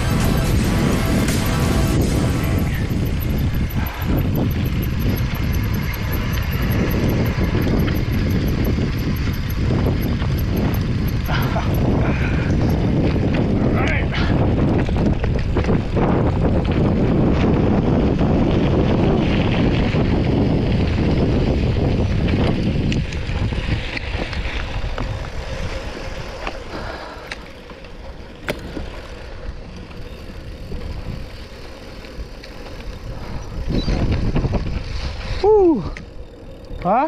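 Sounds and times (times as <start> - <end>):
wind on microphone: 0.0 - 27.4, 28.3 - 37.0
sharp clicks and rattles: 0.0 - 34.8
tyre rumble on loose dirt: 0.0 - 36.6.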